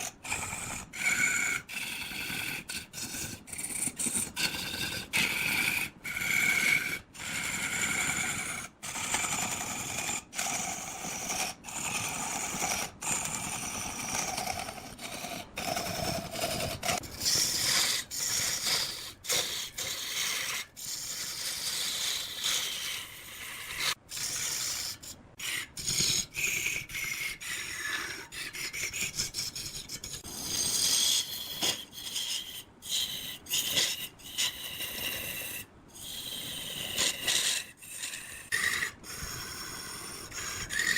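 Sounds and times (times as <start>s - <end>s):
tools scraping and cutting wood: 3.4s - 27.1s, 27.7s - 40.9s.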